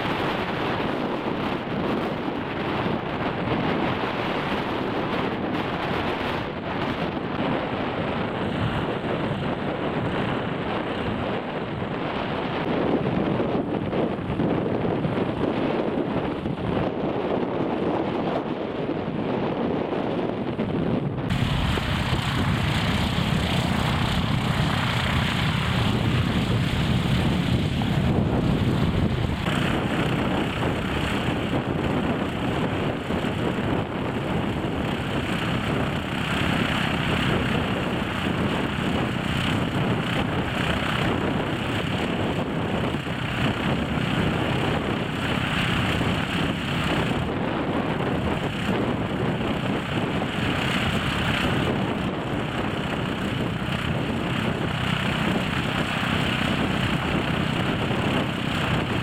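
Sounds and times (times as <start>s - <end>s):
propeller aircraft engine running: 0.0s - 59.0s.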